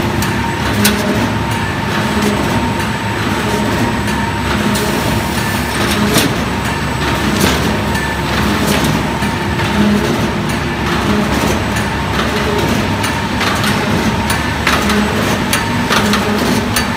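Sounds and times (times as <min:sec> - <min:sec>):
machine drone and hum: 0:00.0 - 0:16.9.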